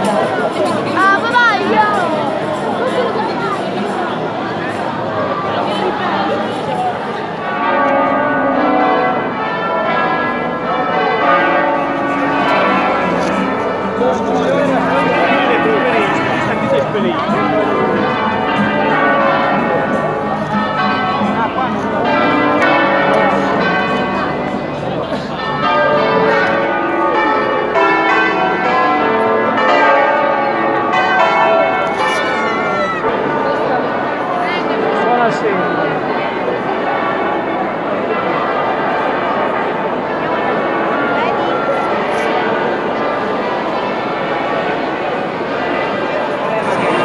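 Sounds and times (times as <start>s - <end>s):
church bells pealing: 0.0s - 47.0s.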